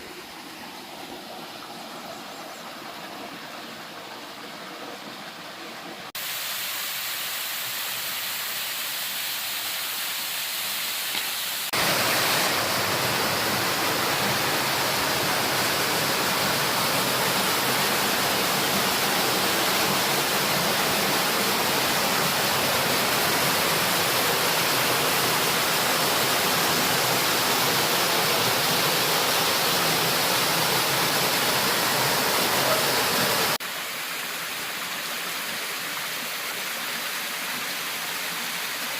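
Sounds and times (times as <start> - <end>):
rush of falling water: 0.0 - 38.9.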